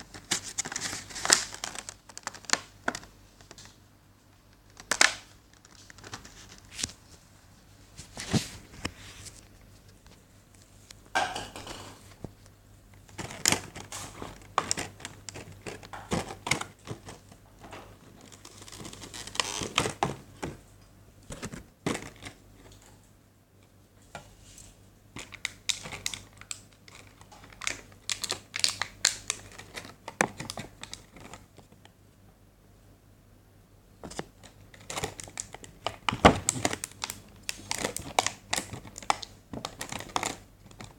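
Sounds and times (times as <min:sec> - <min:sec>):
plastic and cardboard crinkling: 0:00.0 - 0:20.6, 0:21.3 - 0:23.0, 0:24.4 - 0:31.9, 0:34.0 - 0:40.9.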